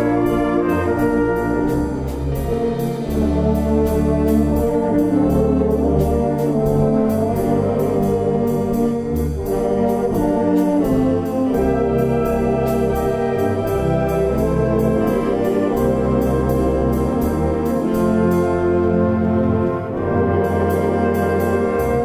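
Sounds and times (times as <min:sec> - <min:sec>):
brass wind band playing: 0:00.0 - 0:22.0.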